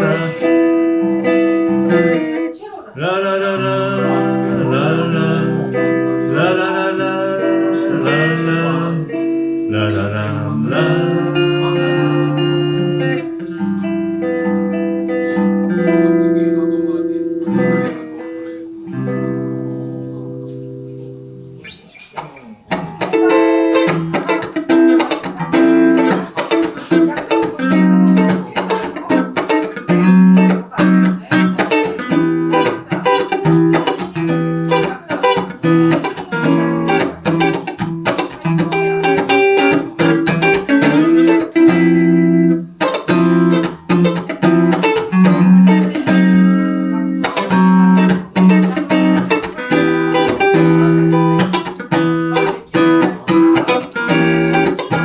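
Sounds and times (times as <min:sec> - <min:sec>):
electric guitar picked notes and chords: 0:00.0 - 0:55.0.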